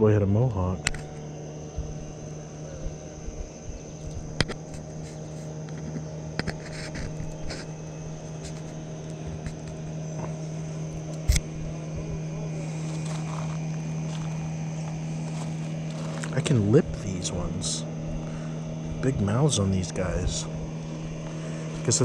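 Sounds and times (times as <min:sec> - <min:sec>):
high-pitched drone: 0:00.0 - 0:22.0
steady low hum: 0:00.0 - 0:22.0.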